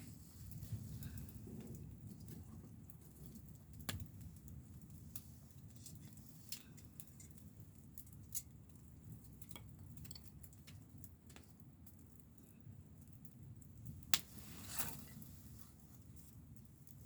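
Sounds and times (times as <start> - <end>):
campfire pops and snaps: 0.0 - 12.4, 13.1 - 15.6.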